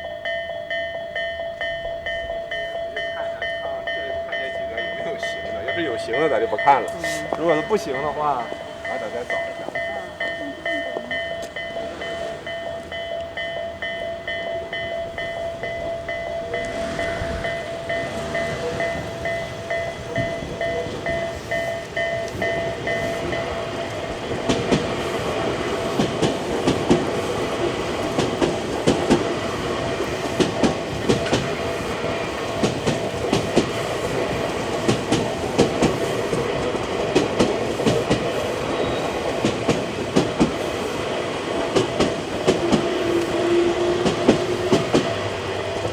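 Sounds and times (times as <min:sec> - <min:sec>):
level-crossing warning bell: 0:00.0 - 0:45.9
train wheels clattering: 0:00.0 - 0:45.9.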